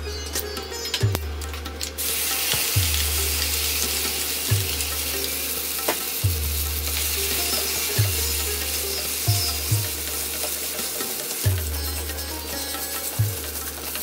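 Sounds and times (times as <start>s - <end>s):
paste sizzling in hot oil: 2.0s - 14.0s.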